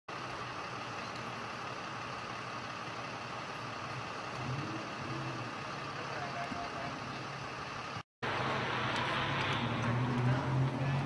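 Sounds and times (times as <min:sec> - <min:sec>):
vehicle engine idling: 0:00.1 - 0:11.0.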